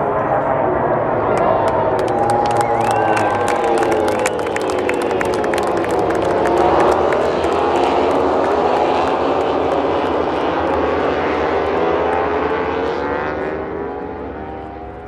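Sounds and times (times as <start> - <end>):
racing motorcycle engines revving high: 0.2 - 15.0.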